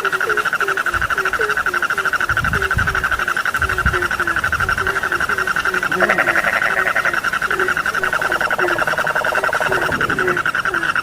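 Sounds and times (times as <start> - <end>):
frog chorus trilling: 0.0 - 11.0
low frog croaks: 0.0 - 11.0
low rumbles: 0.9 - 11.0.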